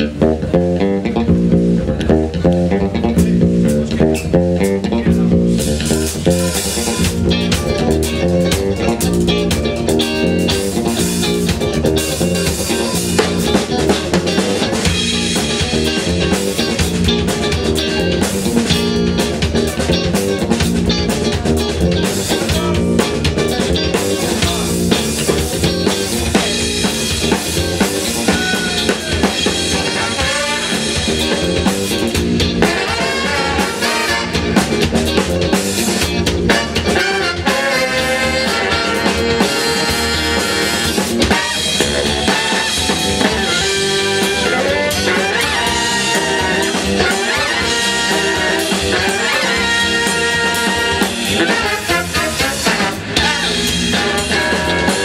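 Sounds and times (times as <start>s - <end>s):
drum kit beat: 0.0s - 55.0s
electric bass: 0.0s - 55.0s
horn section playing funk: 3.1s - 55.0s.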